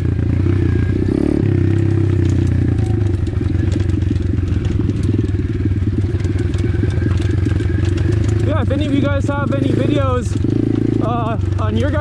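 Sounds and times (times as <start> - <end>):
motorbike engine running: 0.0 - 12.0
clatter over loose rocks: 1.8 - 12.0.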